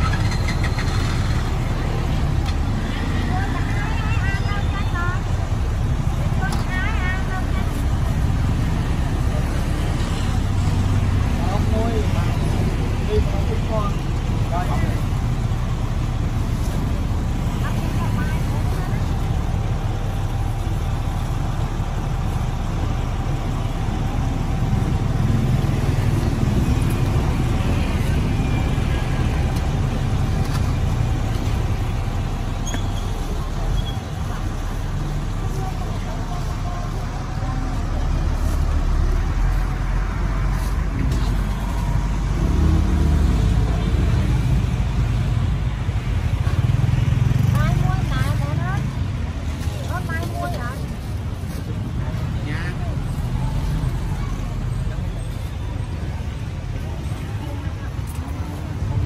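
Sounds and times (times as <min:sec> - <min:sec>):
faint voices: 0:00.0 - 0:59.0
street traffic engine rumble: 0:00.0 - 0:59.0.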